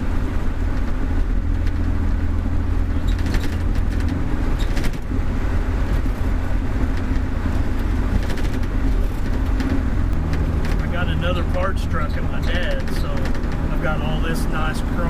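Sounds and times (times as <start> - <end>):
pickup engine and road rumble: 0.0 - 15.0
faint light rattles: 0.6 - 14.4.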